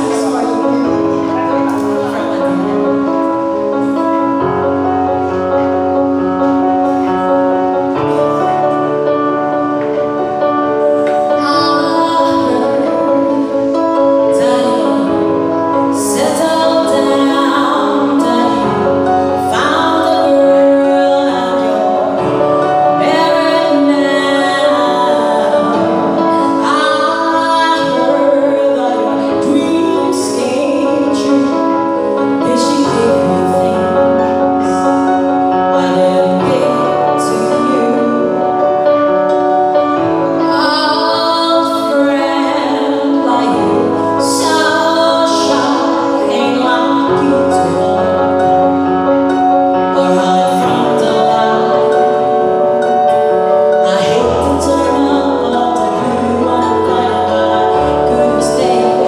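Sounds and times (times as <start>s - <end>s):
electronic keyboard chords: 0.0s - 59.0s
woman singing a ballad: 0.0s - 59.0s.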